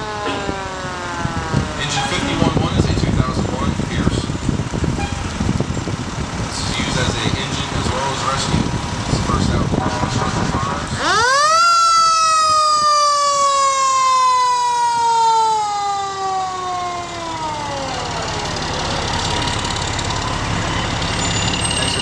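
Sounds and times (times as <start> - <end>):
fire engine siren: 0.0 - 6.2, 9.8 - 22.0
rumble of passing fire trucks: 0.0 - 22.0.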